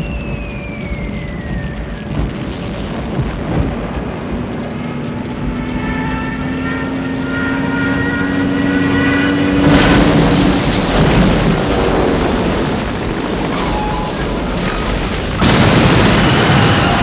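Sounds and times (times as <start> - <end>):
crashing debris: 0.0 - 6.3, 9.6 - 17.0
bomb explosions: 0.0 - 8.1, 8.8 - 17.0
propeller aircraft drone: 0.0 - 15.5.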